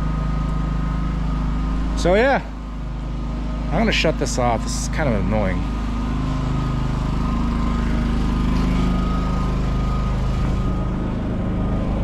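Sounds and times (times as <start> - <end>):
machine humming with high whine: 0.0 - 12.0.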